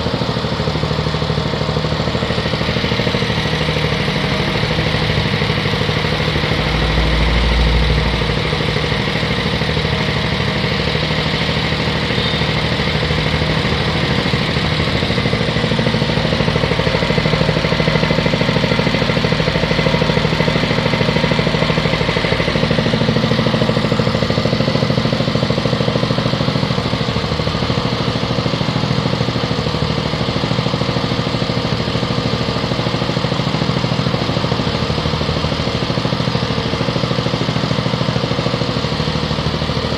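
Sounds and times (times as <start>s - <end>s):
feed pellet machine running: 0.0s - 39.9s
small engine rumble: 0.0s - 39.9s.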